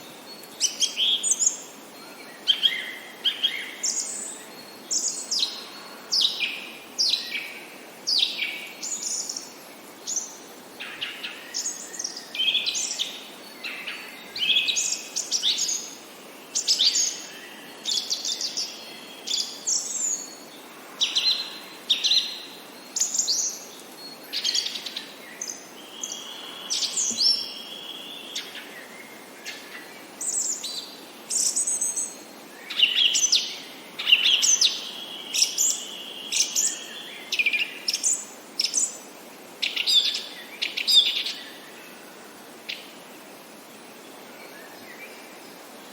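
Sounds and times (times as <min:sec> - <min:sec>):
faint steady hiss: 0:00.0 - 0:45.9
songbirds chirping: 0:00.0 - 0:45.9.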